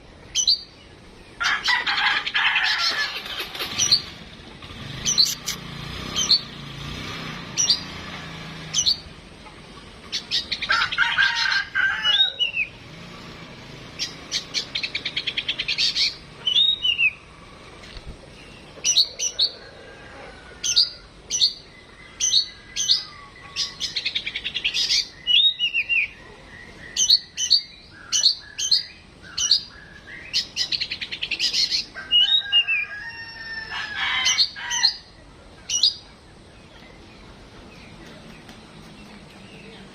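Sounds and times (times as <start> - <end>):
bird singing chirps and trills: 0.0 - 10.7, 12.0 - 12.9, 13.7 - 19.7, 20.6 - 39.9.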